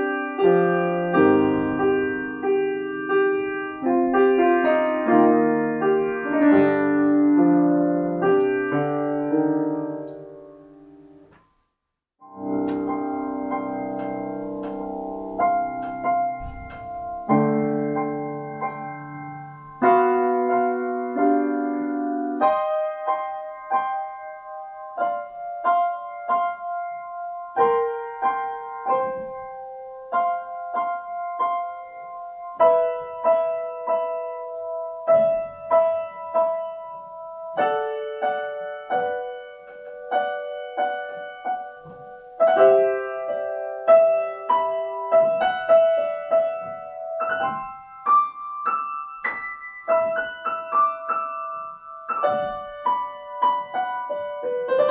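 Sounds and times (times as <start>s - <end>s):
solo piano: 0.0s - 54.9s.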